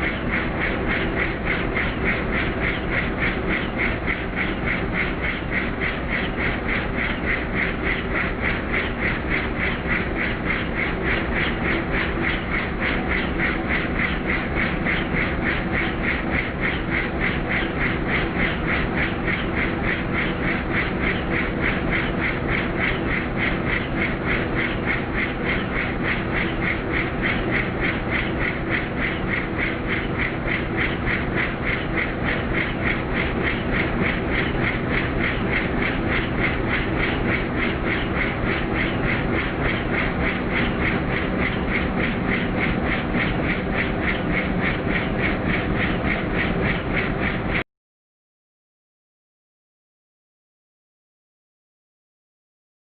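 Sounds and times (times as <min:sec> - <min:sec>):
helicopter engine drone: 0:00.0 - 0:47.6
helicopter rotor chop: 0:00.0 - 0:47.6.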